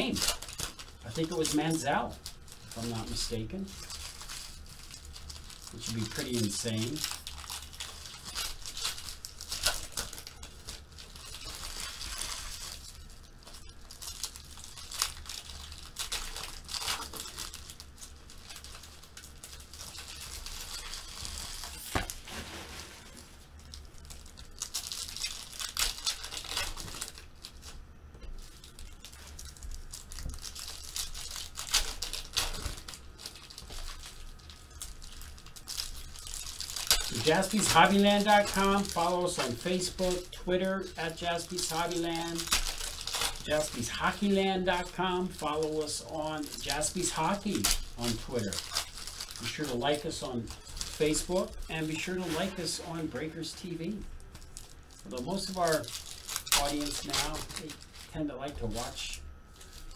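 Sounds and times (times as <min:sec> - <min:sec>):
foil wrappers tearing and crinkling: 0:00.0 - 0:59.9.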